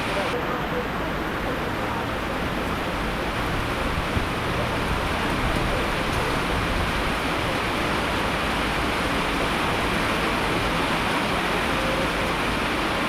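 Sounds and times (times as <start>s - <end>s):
dense rain: 0.0s - 13.0s.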